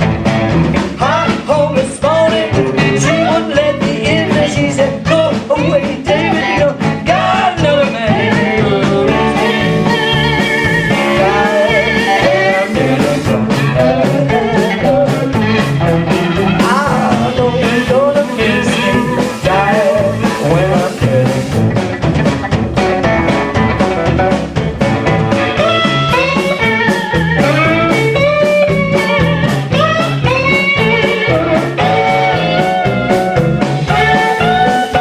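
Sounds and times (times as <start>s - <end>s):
drums: 0.0s - 35.0s
electric guitar: 0.0s - 35.0s
live blues-rock band: 0.0s - 35.0s
person singing: 0.9s - 21.8s, 25.6s - 35.0s.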